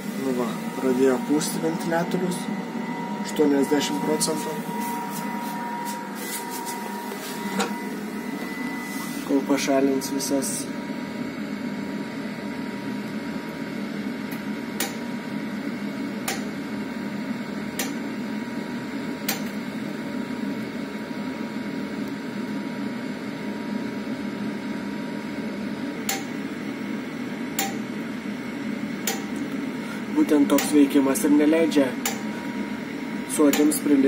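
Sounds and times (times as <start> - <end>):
fan blowing with faint whine: 0.0 - 34.0.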